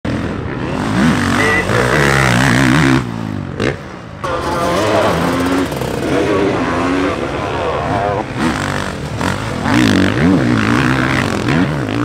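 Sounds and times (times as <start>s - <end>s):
motorbike engine revving: 0.1s - 12.0s.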